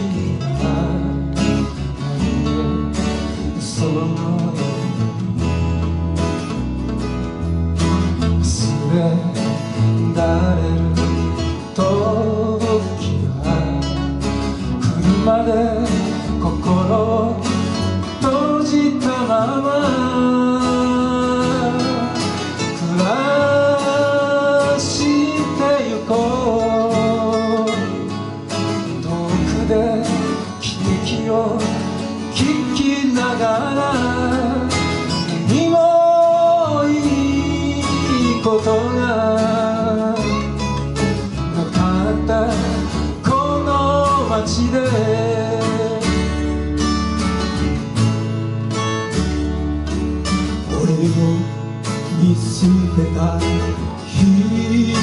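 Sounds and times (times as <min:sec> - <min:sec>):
man singing into a microphone: 0:00.0 - 0:05.3, 0:07.8 - 0:46.7, 0:50.5 - 0:55.0
acoustic guitars strummed: 0:00.0 - 0:55.0.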